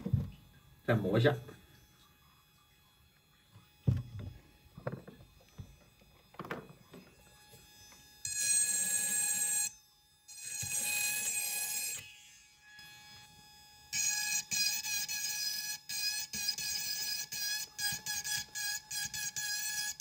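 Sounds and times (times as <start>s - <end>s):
rotary grinder whining: 3.6s - 20.0s.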